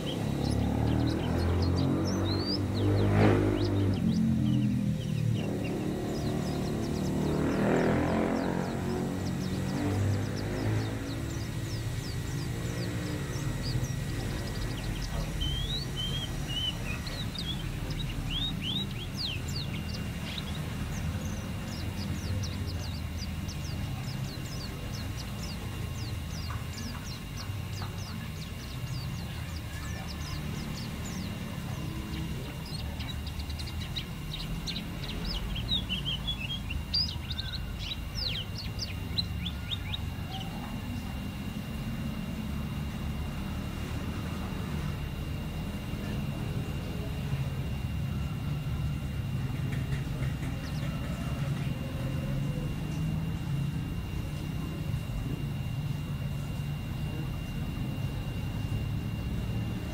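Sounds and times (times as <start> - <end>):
bird chirping and twittering: 0.0 - 59.9
low background rumble: 0.0 - 59.9.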